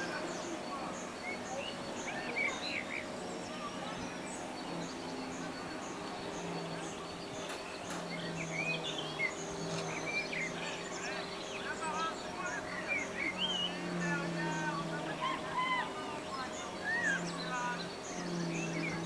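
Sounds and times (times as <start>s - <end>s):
birds chirping: 0.0s - 19.0s
faint low hum: 0.0s - 19.0s.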